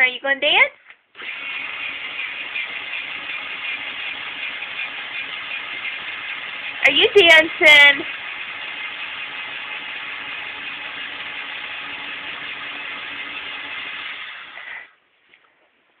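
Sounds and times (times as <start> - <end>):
electric pencil sharpener grinding: 1.2 - 15.0.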